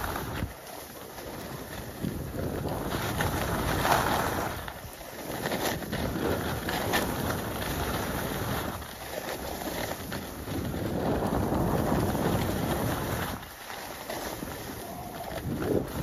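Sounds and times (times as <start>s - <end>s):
wind rushing over microphone: 0.0s - 0.6s, 1.4s - 13.5s, 14.2s - 16.0s
skis scraping over snow: 0.0s - 16.0s.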